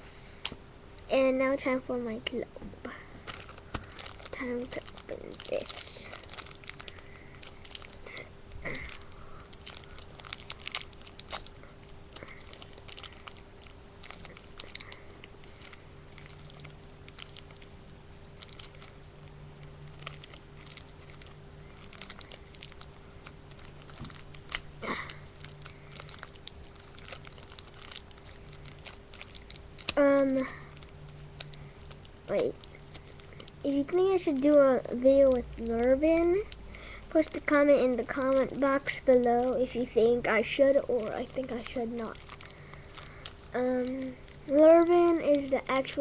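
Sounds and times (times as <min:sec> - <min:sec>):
plastic bag crinkling: 0:03.0 - 0:46.0.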